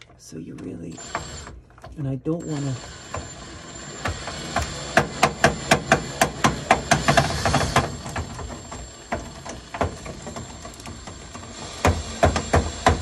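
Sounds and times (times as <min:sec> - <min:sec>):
drill driving screw into plastic: 0:01.0 - 0:01.6, 0:02.4 - 0:13.0.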